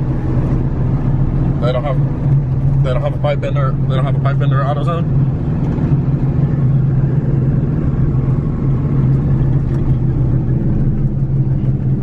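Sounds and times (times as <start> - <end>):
low engine drone: 0.0 - 12.0
road and tyre noise: 0.0 - 12.0.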